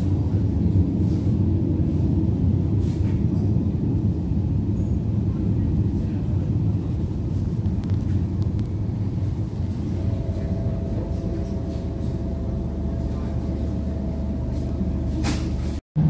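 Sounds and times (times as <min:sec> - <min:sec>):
train wheels rumbling: 0:00.0 - 0:15.8
steady higher hum: 0:00.0 - 0:16.0.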